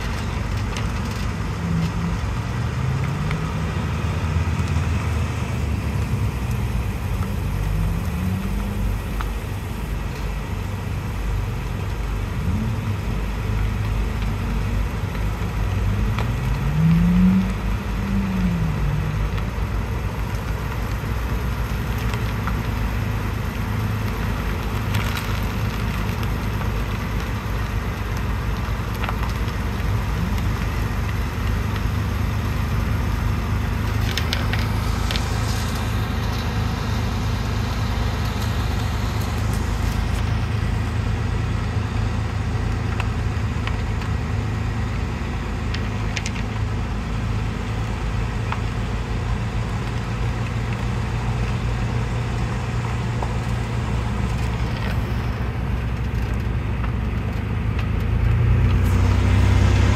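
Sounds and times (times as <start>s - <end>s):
cars rumbling on road: 0.0s - 59.9s.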